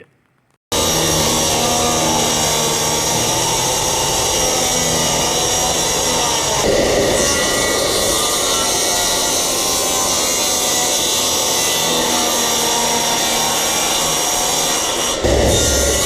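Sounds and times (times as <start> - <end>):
power tool running: 0.7 - 16.0.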